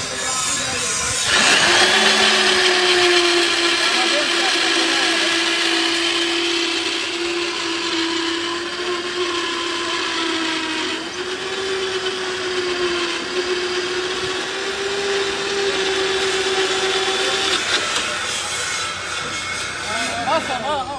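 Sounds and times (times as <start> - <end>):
power tool motor whining: 0.0 - 20.9.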